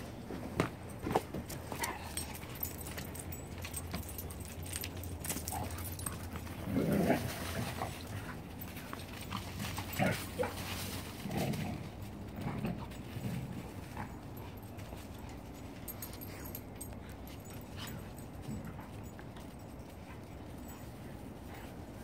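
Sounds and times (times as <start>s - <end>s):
light clicks and rustling: 0.6s - 21.8s.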